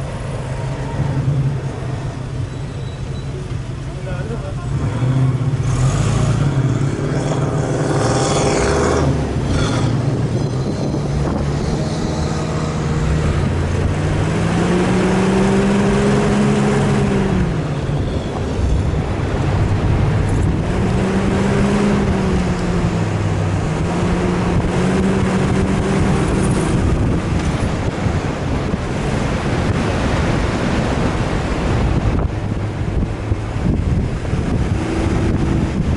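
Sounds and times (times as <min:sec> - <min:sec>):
engine revving: 0:04.6 - 0:17.7, 0:19.0 - 0:35.9
wind noise: 0:04.7 - 0:35.9.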